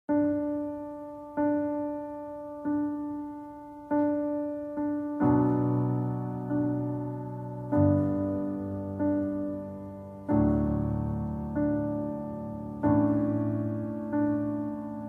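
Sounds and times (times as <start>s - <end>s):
slow solo piano: 0.1s - 15.0s.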